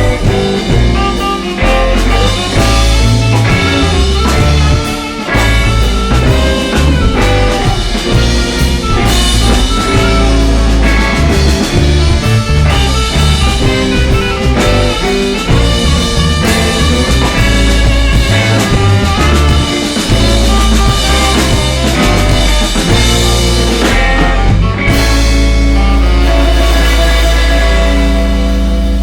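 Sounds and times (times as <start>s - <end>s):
bass guitar: 0.0s - 29.0s
drum kit: 0.0s - 29.0s
electric guitar: 0.0s - 29.0s
instrumental blues rock: 0.0s - 29.0s.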